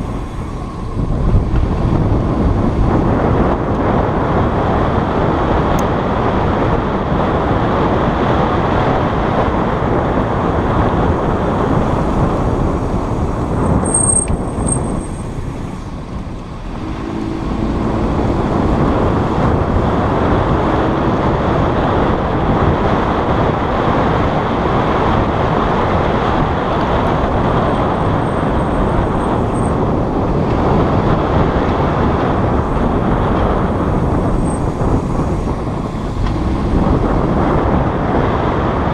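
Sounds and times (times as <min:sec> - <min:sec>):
brakes squealing: 0:00.0 - 0:04.9, 0:10.2 - 0:38.9
road and tyre noise: 0:00.0 - 0:38.9.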